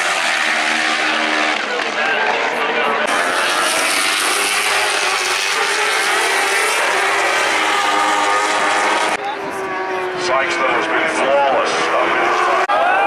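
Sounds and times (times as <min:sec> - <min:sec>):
racing motorcycles passing at speed: 0:00.0 - 0:13.0.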